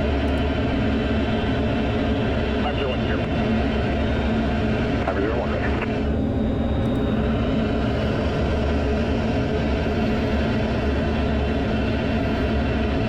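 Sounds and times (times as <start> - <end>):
fighter jet engine rumble: 0.0 - 13.0.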